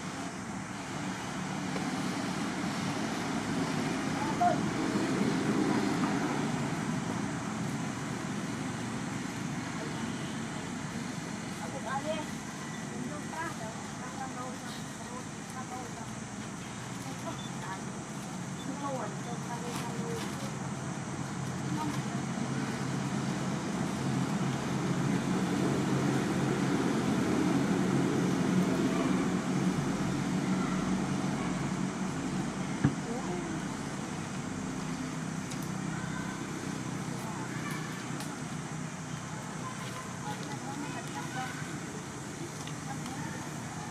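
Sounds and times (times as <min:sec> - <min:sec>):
outdoor background rumble: 0:00.0 - 0:43.9.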